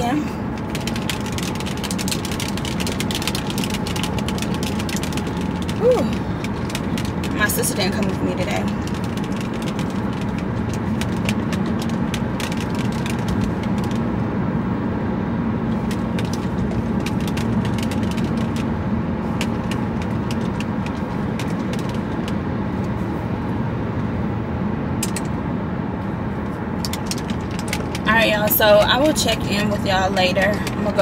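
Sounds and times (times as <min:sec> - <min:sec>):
car cabin hum: 0:00.0 - 0:31.0.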